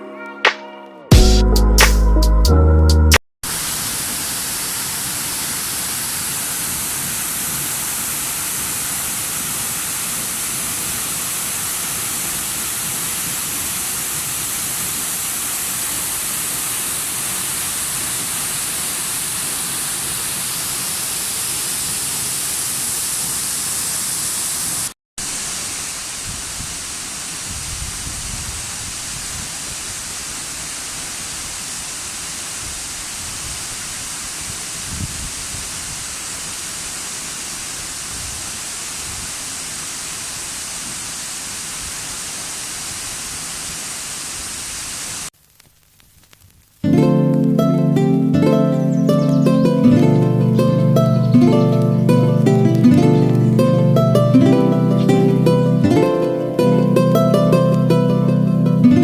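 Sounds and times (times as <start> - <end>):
waterfall rushing: 3.4 - 45.3, 46.9 - 59.0.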